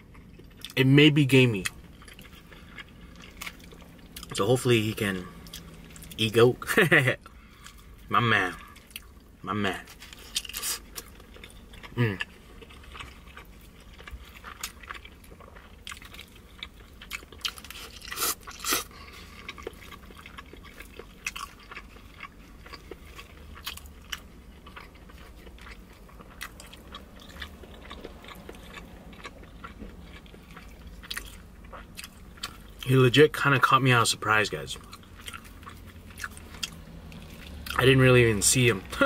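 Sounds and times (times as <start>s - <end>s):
person chewing food: 0.0s - 0.8s, 1.5s - 6.3s, 7.2s - 32.9s, 34.8s - 38.0s.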